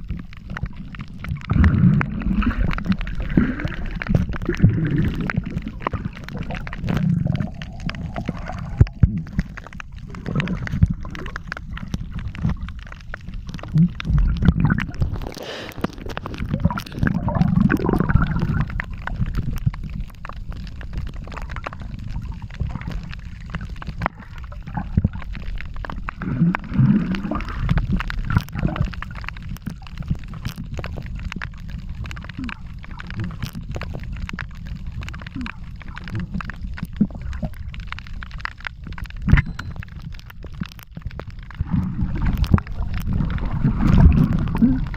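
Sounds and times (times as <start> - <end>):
underwater gurgling rumble: 0.0 - 44.9.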